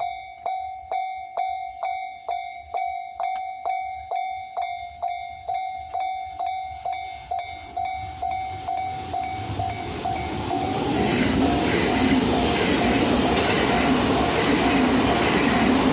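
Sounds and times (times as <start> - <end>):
level crossing warning bell: 0.0 - 15.9
rumble of approaching train: 0.0 - 15.9.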